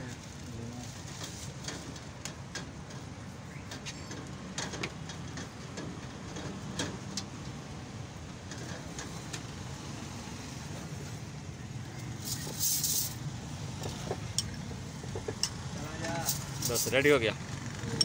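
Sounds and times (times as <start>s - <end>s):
low traffic hum: 0.0s - 18.0s.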